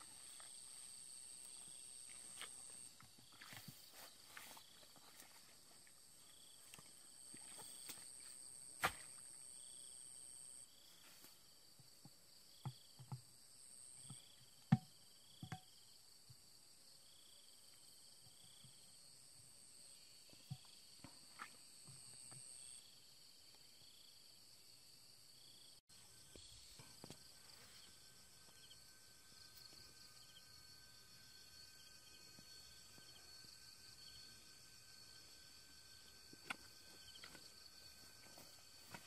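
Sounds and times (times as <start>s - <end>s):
insects trilling: 0.0s - 15.9s, 21.6s - 39.0s.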